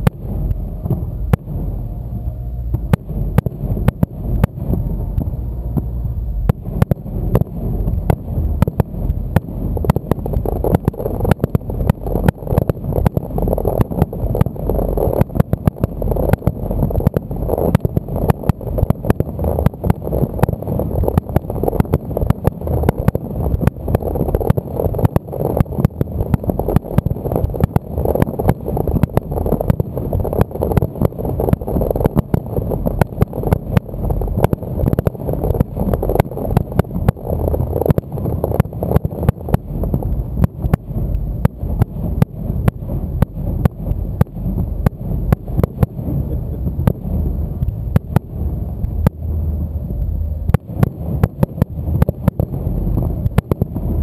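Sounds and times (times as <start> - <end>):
deep rumble: 0.0 - 54.0.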